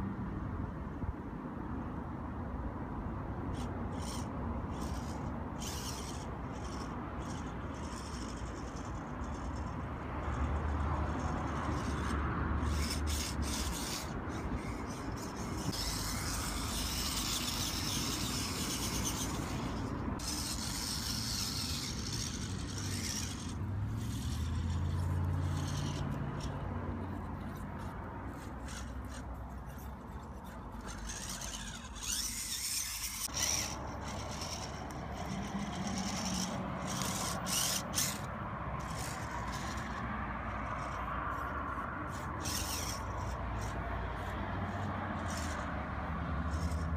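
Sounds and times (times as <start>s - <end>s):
electric motor and gears whining: 3.5s - 46.9s.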